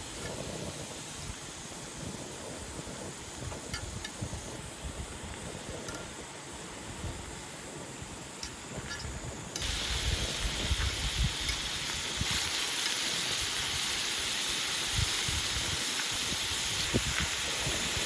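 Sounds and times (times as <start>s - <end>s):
food sizzling in a hot pan: 0.0s - 18.0s.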